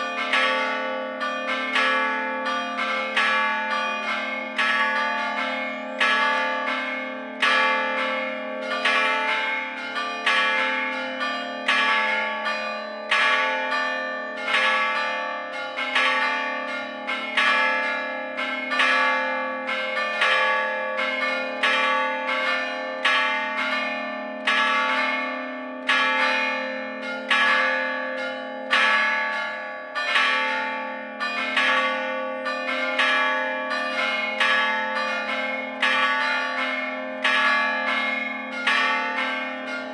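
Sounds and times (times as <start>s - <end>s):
church bells struck by hammers: 0.0s - 39.9s.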